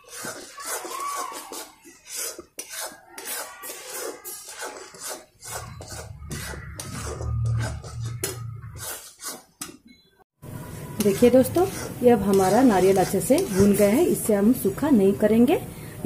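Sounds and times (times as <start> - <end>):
spatula scraping a pan: 0.0 - 9.7, 10.6 - 14.7.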